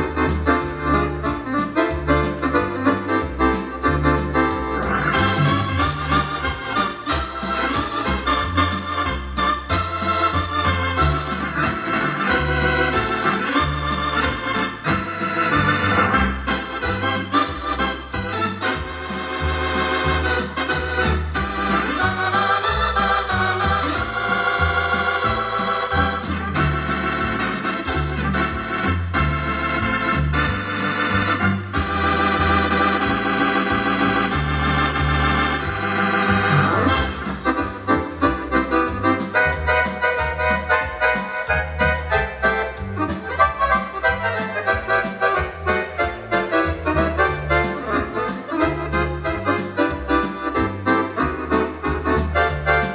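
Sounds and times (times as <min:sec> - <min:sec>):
electronic organ playing: 0:00.0 - 0:52.9
rhythm beat: 0:00.0 - 0:52.9.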